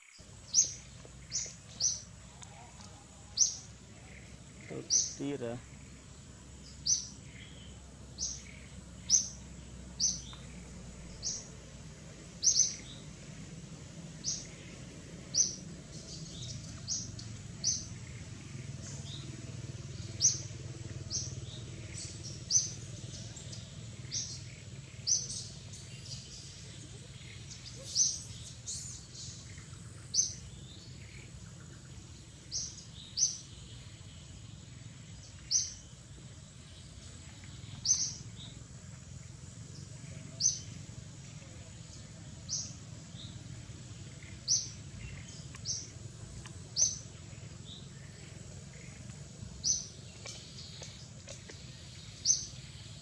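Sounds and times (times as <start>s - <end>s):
bird chirping: 0.0s - 13.6s, 14.2s - 38.7s, 41.4s - 53.0s
faint low rumble: 0.0s - 53.0s.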